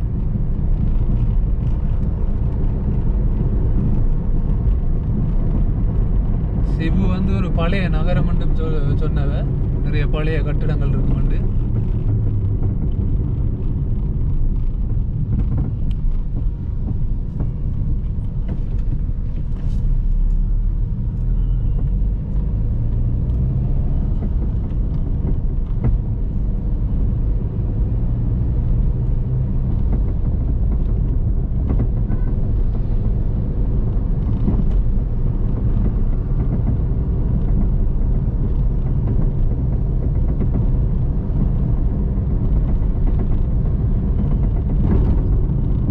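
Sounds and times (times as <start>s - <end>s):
engine and road noise in car: 0.0s - 45.9s.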